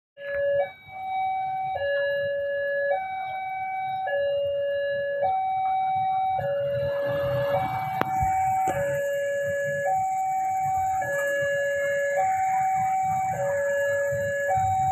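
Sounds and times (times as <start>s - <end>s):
level-crossing alarm two tones: 0.3s - 14.9s.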